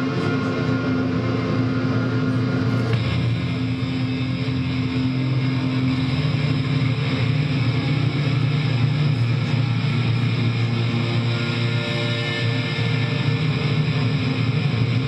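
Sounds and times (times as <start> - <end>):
electric guitar drone: 0.0 - 15.0.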